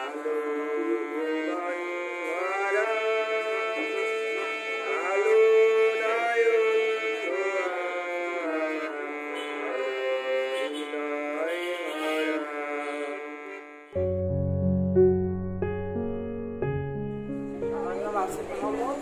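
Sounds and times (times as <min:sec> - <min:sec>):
harmonium melody: 0:00.0 - 0:19.0.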